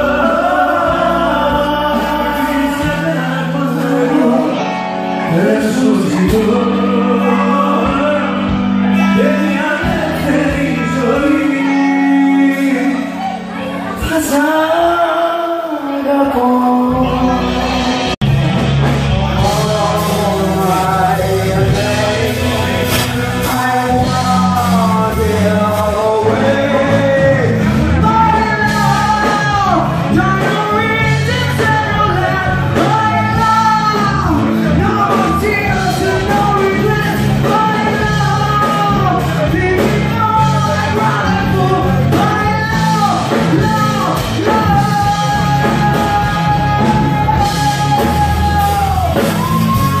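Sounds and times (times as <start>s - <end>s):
bass guitar: 0.0s - 50.0s
drums: 0.0s - 50.0s
electric guitar: 0.0s - 50.0s
woman singing lead: 0.0s - 50.0s.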